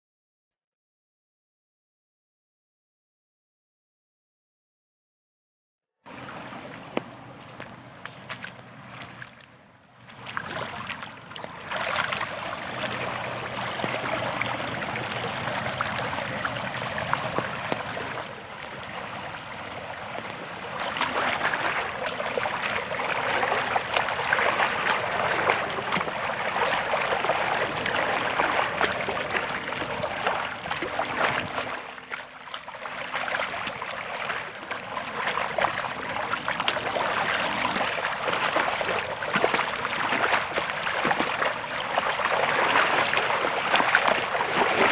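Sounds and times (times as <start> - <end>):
water rushing down a channel: 6.1 - 44.9.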